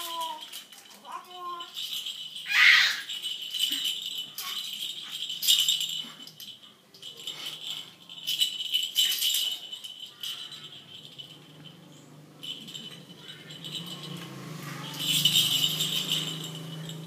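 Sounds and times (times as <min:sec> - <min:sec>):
plastic toy rattle shaking: 0:00.0 - 0:17.0.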